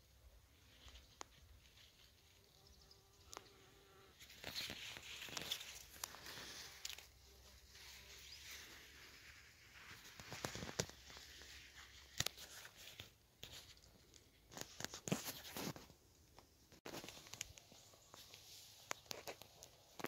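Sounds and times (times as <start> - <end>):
leaves and canes rustling: 0.0 - 20.0.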